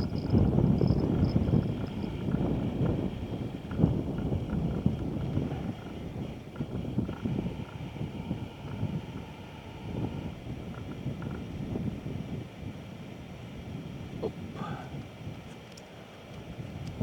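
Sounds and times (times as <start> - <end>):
wind buffeting microphone: 0.0 - 15.6, 16.3 - 17.0.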